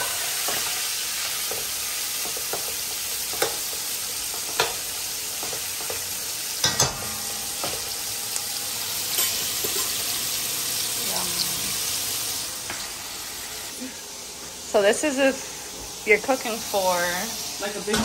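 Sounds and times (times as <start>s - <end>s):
sausages sizzling in oil: 0.0s - 18.0s.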